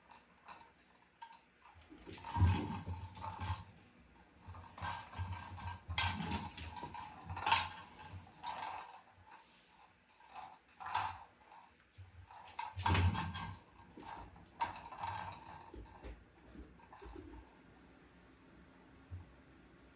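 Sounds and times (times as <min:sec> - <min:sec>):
cat toy rattling and jingling: 0:00.0 - 0:18.0.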